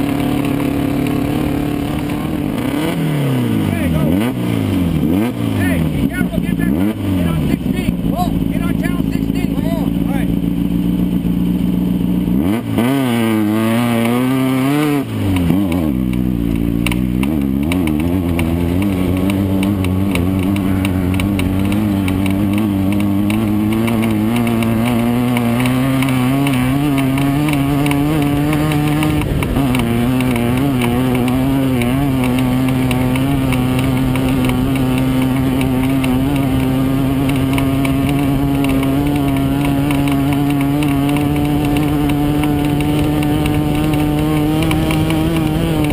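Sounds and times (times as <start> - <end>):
buggy engine revving: 0.0 - 45.9.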